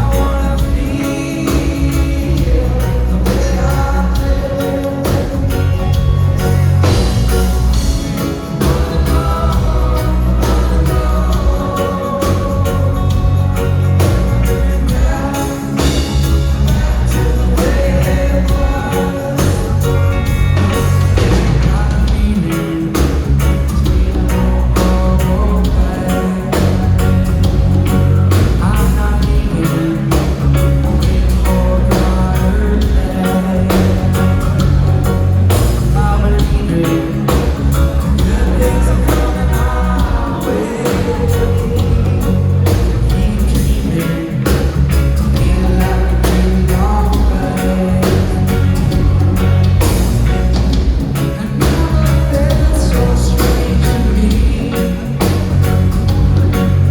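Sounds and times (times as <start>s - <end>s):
heavy bass line: 0.0s - 56.9s
person singing: 0.0s - 56.9s
reggae band playing live: 0.0s - 56.9s.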